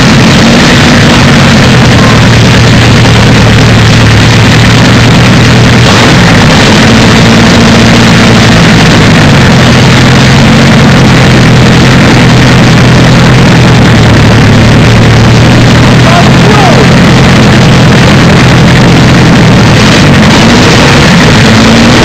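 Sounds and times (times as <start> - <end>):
aero engine running loud: 0.0 - 22.0.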